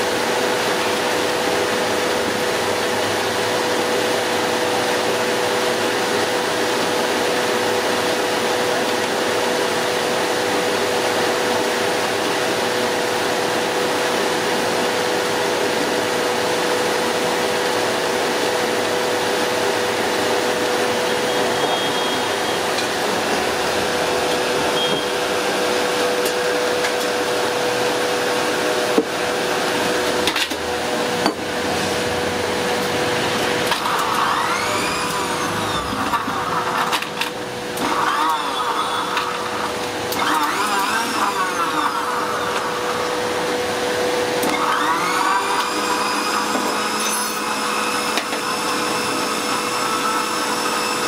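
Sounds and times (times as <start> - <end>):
electric motor whine: 0.0 - 51.0.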